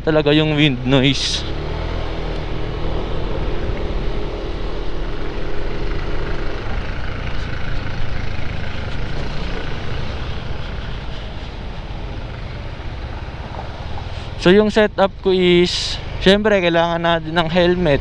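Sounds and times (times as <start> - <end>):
pitched engine hum: 0.0 - 18.0
vehicle engine low rumble: 0.0 - 18.0.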